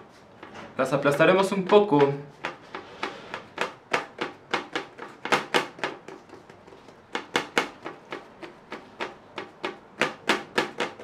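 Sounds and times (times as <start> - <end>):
hand patting dough: 0.0 - 11.0.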